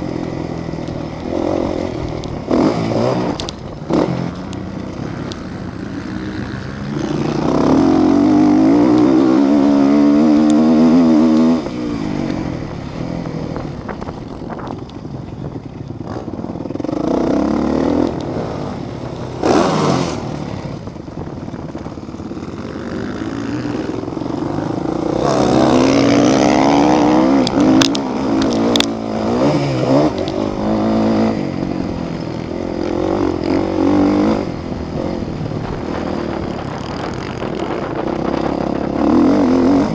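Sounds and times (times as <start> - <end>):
motorcycles racing past revving: 0.0 - 14.8, 15.5 - 39.9.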